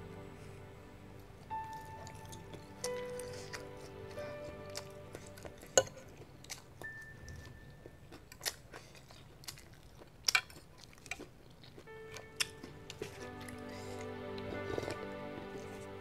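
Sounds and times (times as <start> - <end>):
soft eating sounds: 0.0 - 16.0.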